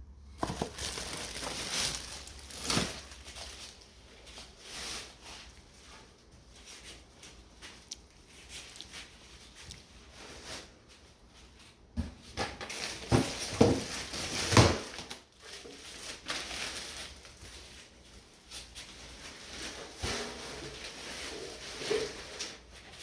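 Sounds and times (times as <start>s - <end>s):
rustling handling noises: 0.2s - 23.0s.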